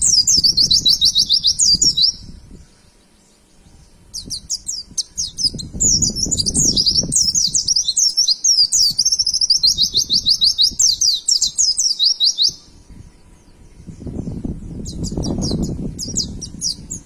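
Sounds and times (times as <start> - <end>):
bird twittering song: 0.0 - 17.0.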